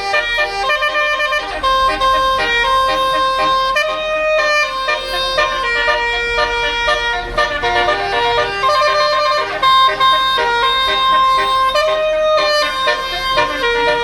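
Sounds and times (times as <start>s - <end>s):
multi-tone air horn melody: 0.0s - 14.0s.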